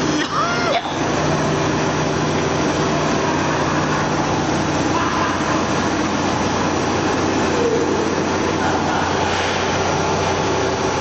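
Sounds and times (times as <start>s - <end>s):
paper machine running: 0.0s - 11.0s.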